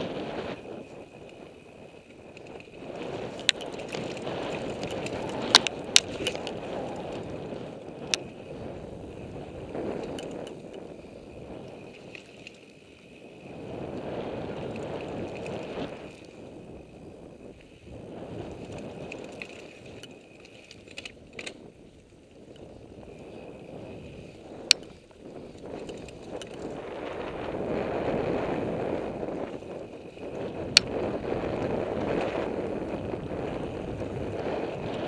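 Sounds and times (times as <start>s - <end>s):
bike clicking and rattling: 0.0s - 35.0s
bike tyres rolling over dirt: 0.0s - 35.0s.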